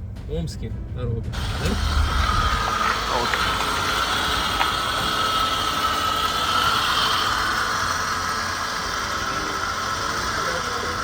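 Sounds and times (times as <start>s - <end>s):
car engine hum: 0.0s - 11.0s
high whine: 1.3s - 11.0s.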